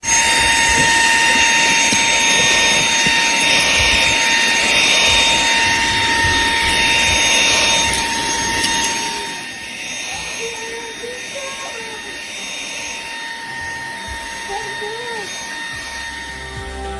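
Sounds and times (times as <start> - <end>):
handheld vacuum cleaner running: 0.0 - 16.9.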